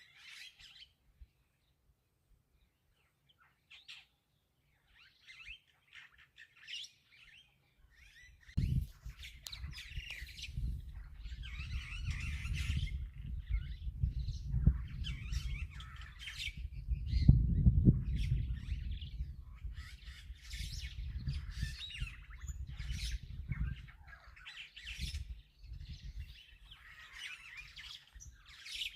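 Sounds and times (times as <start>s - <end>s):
birds chirping: 0.0s - 1.8s, 2.5s - 28.9s.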